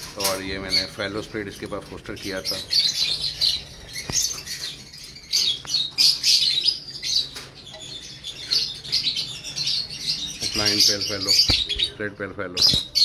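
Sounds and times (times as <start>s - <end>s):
lovebirds chirping: 0.0s - 13.0s.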